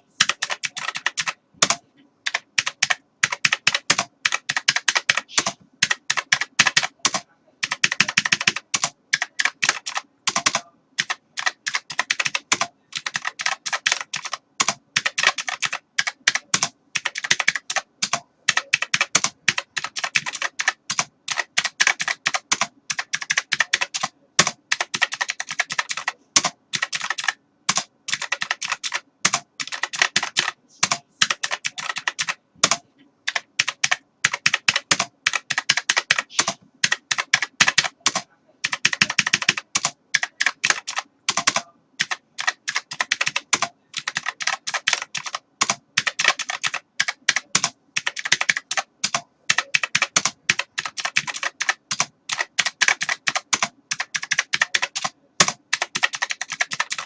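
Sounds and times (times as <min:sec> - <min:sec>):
keyboard typing: 0:00.0 - 0:57.0.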